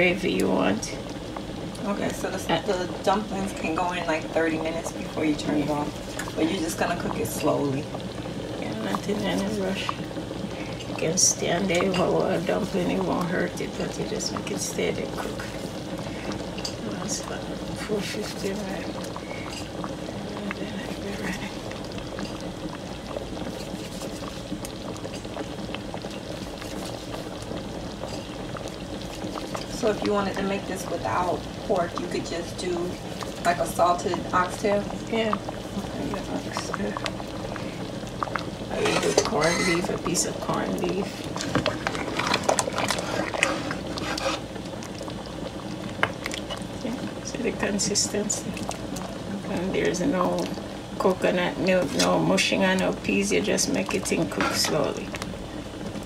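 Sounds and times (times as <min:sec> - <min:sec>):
stew bubbling in a pot: 0:00.0 - 0:56.0.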